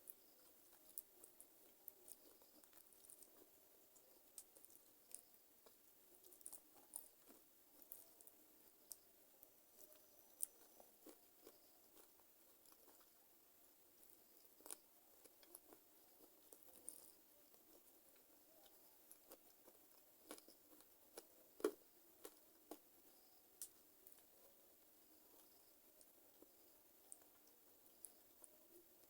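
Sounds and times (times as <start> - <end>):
chewing and crunching: 0.0 - 13.3, 13.9 - 29.0.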